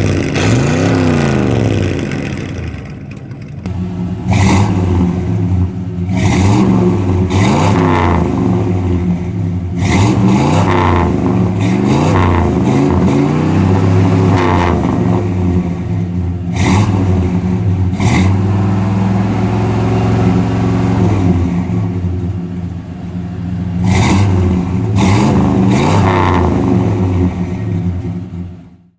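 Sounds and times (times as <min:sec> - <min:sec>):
car engine revving through exhaust: 0:00.0 - 0:02.8, 0:03.6 - 0:28.6.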